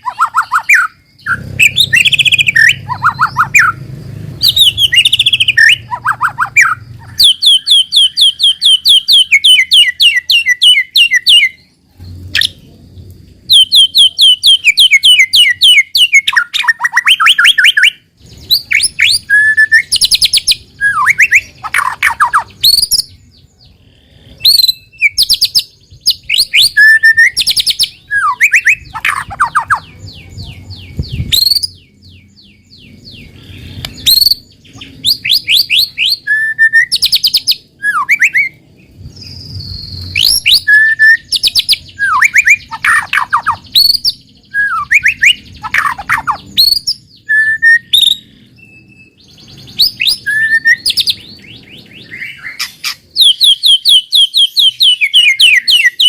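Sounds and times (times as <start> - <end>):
bird singing whistles and trills: 0.0 - 12.8, 13.4 - 56.0.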